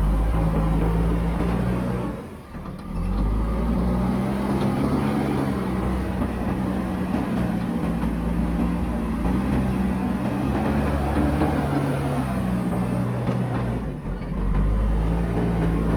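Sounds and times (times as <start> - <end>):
diesel engine running: 0.0 - 15.9.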